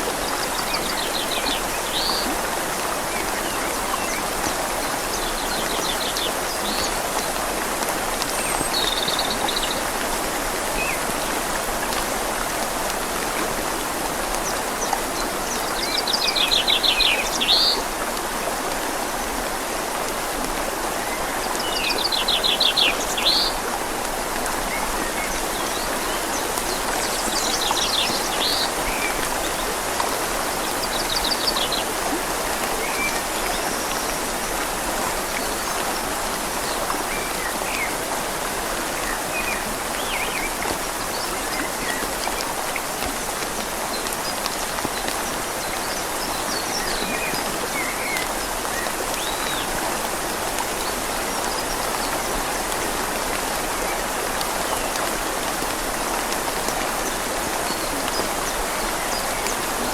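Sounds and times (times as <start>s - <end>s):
rain falling on leaves: 0.0s - 59.9s
river flowing: 0.0s - 59.9s.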